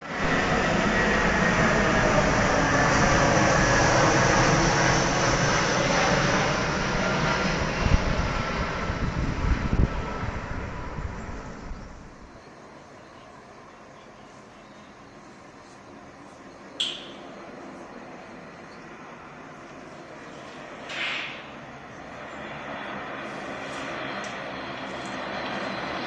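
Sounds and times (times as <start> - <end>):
jet airliner engines passing: 0.0 - 26.0.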